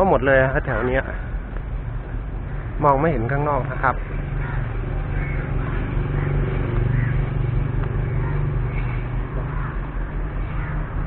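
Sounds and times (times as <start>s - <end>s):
street noise: 0.0s - 11.0s
vehicle engine running: 0.0s - 11.0s.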